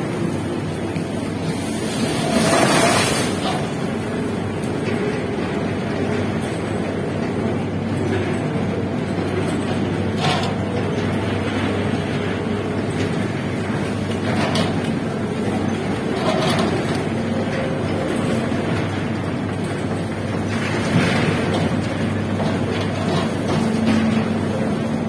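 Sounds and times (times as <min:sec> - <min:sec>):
crane machinery drone: 0:00.0 - 0:25.0.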